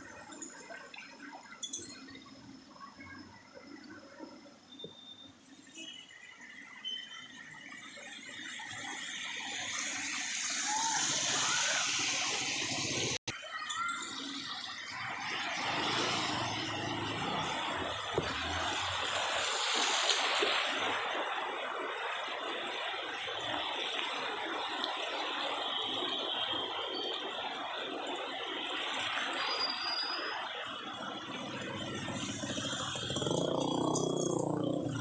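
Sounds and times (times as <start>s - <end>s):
floodwater rushing and splashing: 5.5s - 13.2s, 14.2s - 35.0s.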